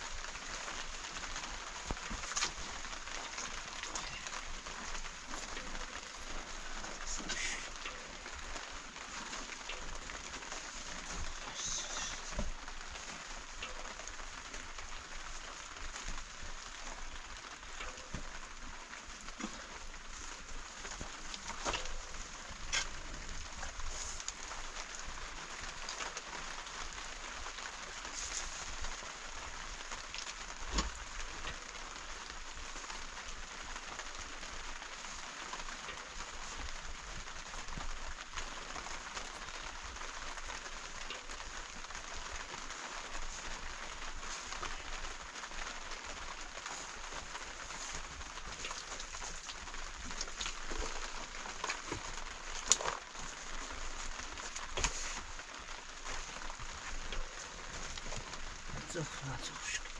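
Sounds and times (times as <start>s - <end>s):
raindrop ticks: 0.0s - 59.9s
steady rain falling: 0.0s - 59.9s.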